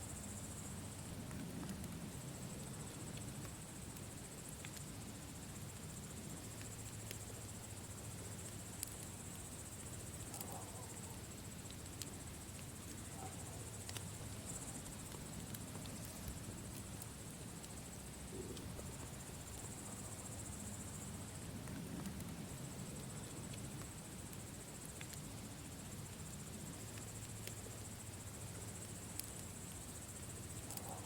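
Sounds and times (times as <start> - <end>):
campfire crackling and popping: 0.3 - 31.0.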